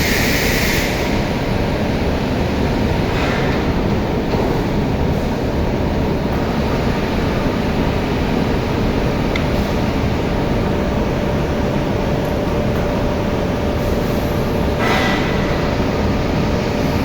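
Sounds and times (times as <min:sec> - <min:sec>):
loud machinery noise: 0:00.0 - 0:17.0.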